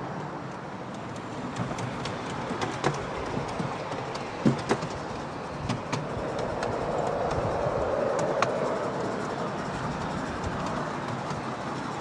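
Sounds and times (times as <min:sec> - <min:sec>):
miniature steam train rumbling: 0:00.0 - 0:12.0.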